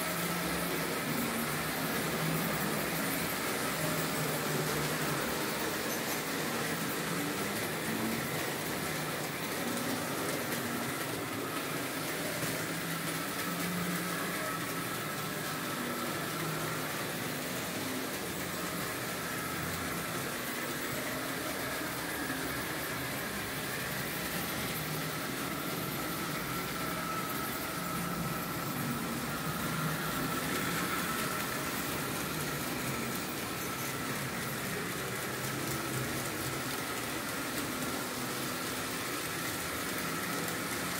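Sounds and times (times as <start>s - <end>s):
model train motor whir: 0.0s - 40.9s
wheels rolling on track: 0.0s - 40.9s.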